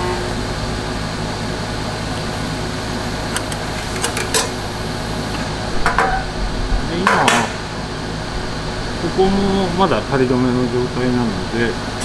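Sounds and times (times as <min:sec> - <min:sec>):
welding arc hum and hiss: 0:00.0 - 0:12.0.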